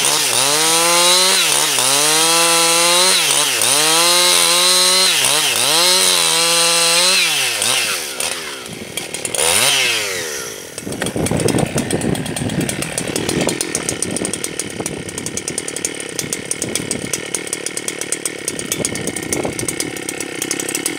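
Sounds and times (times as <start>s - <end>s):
chainsaw cutting log: 0.0s - 20.9s
chainsaw idling: 0.0s - 20.9s.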